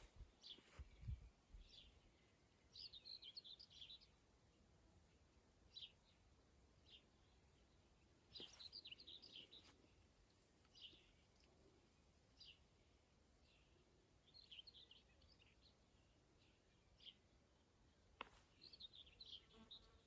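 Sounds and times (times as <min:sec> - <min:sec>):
songbirds twittering: 0:00.0 - 0:04.2, 0:04.8 - 0:20.0.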